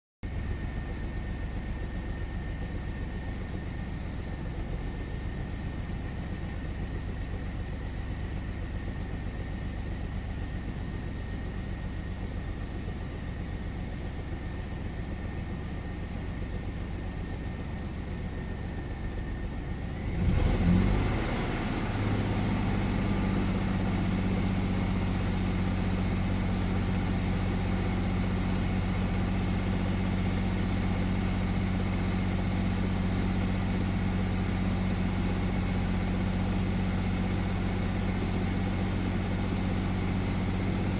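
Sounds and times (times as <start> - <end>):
car engine starting and idling: 0.2 - 40.9.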